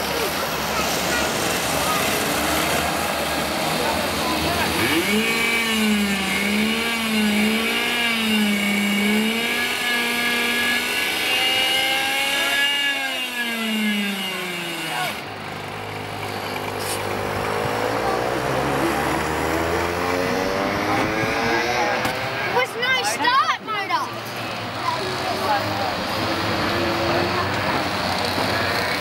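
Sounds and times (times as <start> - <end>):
go-kart engines revving: 0.0 - 29.0.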